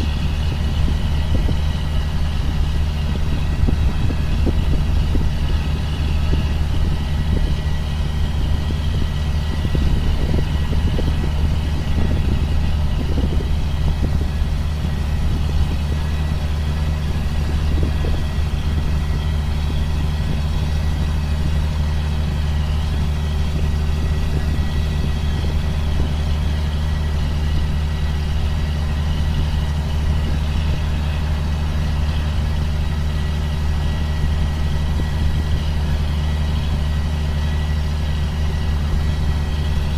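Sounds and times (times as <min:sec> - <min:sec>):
sprayer engine droning: 0:00.0 - 0:39.9.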